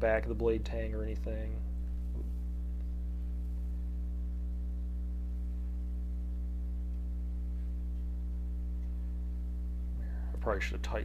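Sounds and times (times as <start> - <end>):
electrical hum with buzz: 0.0 - 11.0.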